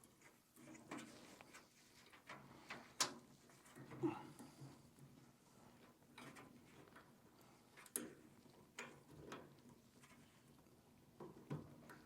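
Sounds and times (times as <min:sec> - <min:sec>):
faint clicks and knocks of parts: 0:00.0 - 0:12.0.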